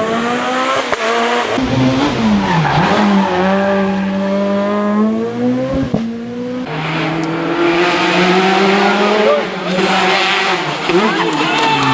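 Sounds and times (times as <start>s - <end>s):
car engine at racing revs: 0.0s - 11.9s.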